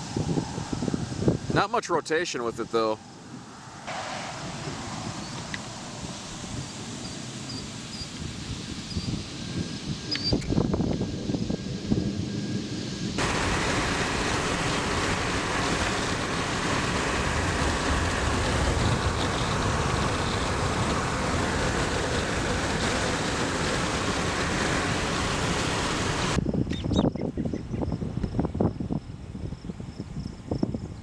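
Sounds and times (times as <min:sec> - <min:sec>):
car road and wind noise: 0:00.0 - 0:31.0
wind on microphone: 0:00.0 - 0:31.0.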